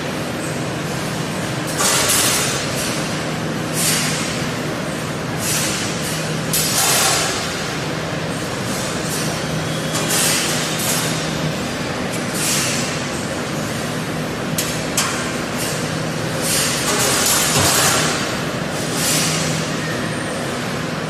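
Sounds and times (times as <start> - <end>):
low machine hum: 0.0 - 21.0
production line machinery din: 0.0 - 21.0.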